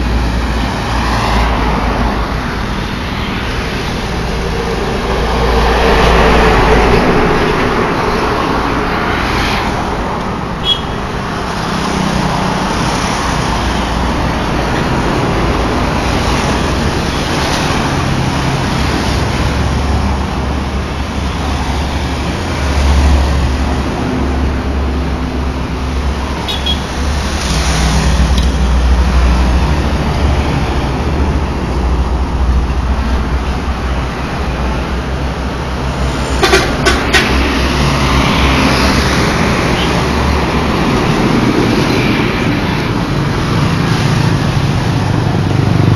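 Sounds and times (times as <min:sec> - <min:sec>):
vehicles passing on road: 0:00.0 - 0:45.9.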